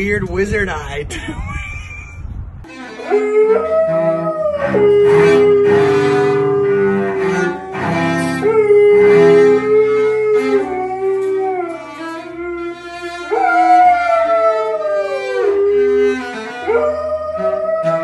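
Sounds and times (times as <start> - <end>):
bowed cello: 2.7 - 18.0
dog howling: 3.0 - 18.0.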